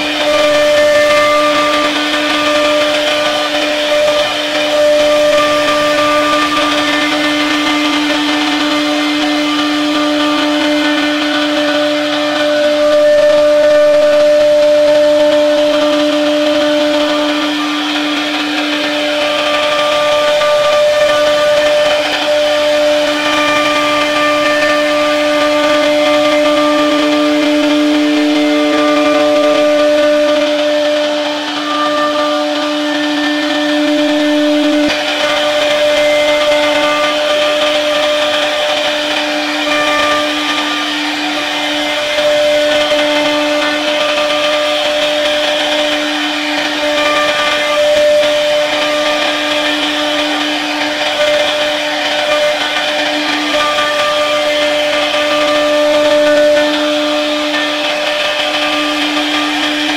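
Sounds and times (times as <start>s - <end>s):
bit rasping through wood: 0.0s - 59.9s
router spindle whine: 0.0s - 59.9s.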